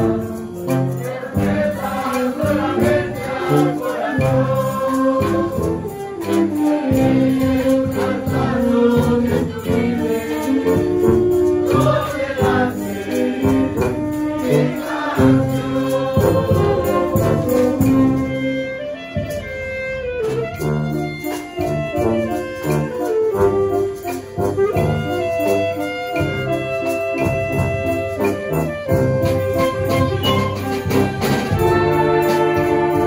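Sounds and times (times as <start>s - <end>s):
bass drum and snare drum beat: 0.0s - 33.0s
brass band playing: 0.0s - 33.0s.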